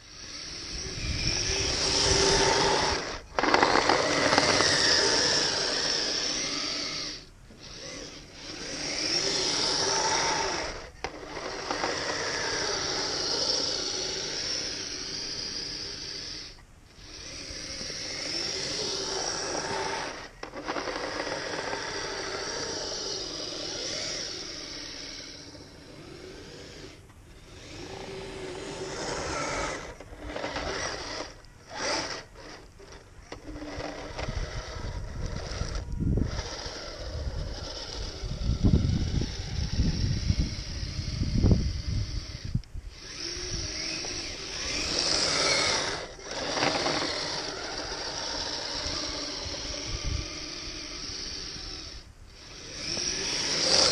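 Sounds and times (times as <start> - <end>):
electric motor whine: 0.0 - 53.9.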